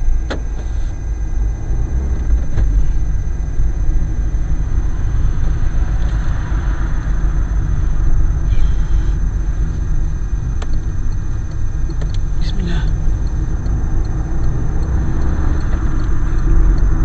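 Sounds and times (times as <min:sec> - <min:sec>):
vehicle engine and tyres rumbling: 0:00.0 - 0:17.0.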